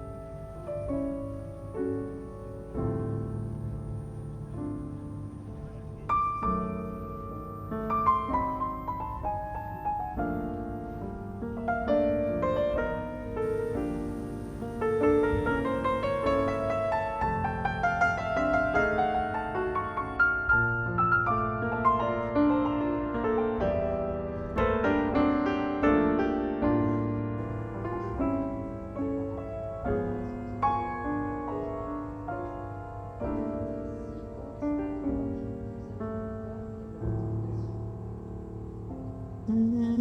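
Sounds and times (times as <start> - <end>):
gentle piano melody: 0.0 - 40.0.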